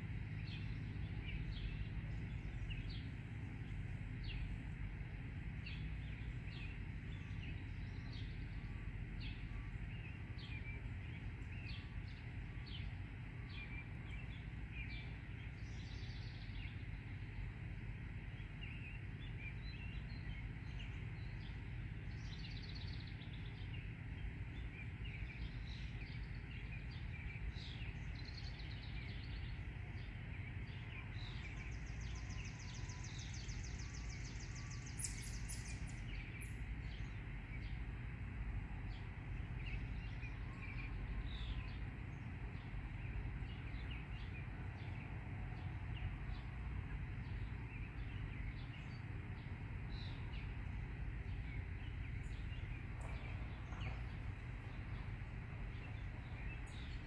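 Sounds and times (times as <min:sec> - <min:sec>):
low background rumble: 0:00.0 - 0:57.0
songbirds chirping: 0:00.0 - 0:57.0.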